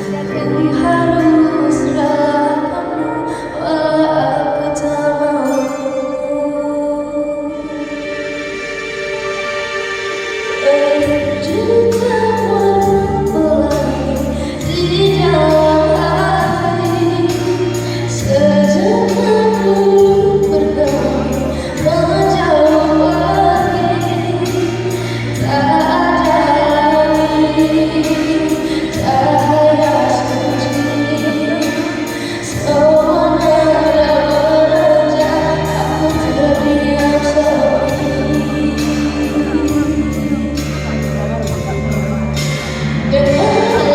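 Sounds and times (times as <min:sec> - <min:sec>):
woman singing: 0:00.0 - 0:08.3, 0:10.6 - 0:41.8, 0:43.0 - 0:43.9
backing music with beat: 0:07.5 - 0:43.9.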